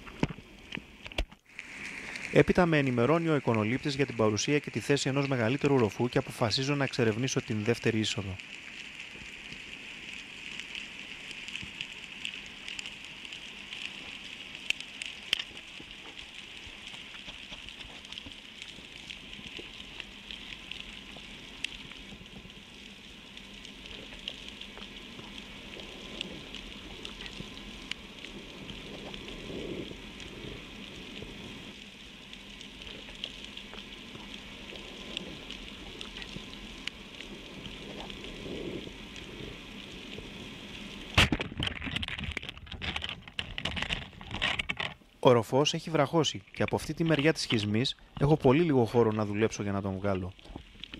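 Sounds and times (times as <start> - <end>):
underwater crackling hiss: 0.0 - 41.4.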